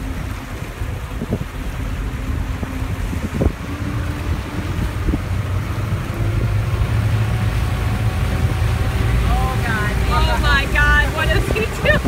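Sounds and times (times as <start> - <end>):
motorboat engine rumble: 0.0 - 12.0
rushing boat wake: 0.0 - 12.0
wind buffeting microphone: 0.0 - 12.0.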